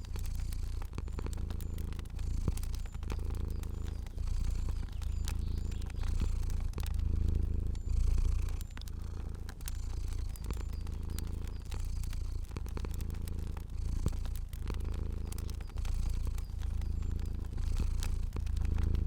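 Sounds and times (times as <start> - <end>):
cat purring: 0.0 - 19.0
fire crackling pops: 0.0 - 19.0.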